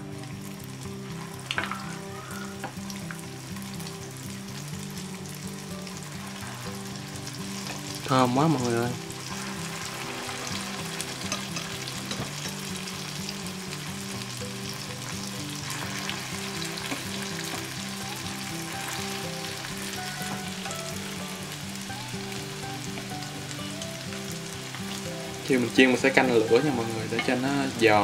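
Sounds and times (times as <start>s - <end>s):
food deep-frying in oil: 0.0s - 28.0s.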